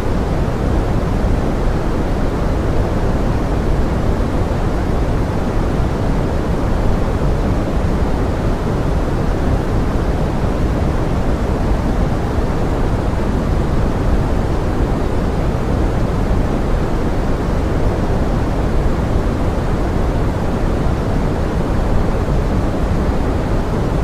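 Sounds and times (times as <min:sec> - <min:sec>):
pink noise hiss: 0:00.0 - 0:24.0.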